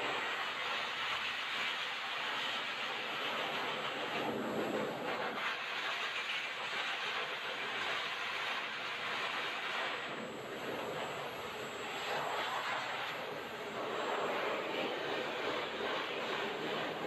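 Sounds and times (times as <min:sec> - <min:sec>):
blow dryer blowing air: 0:00.0 - 0:17.0.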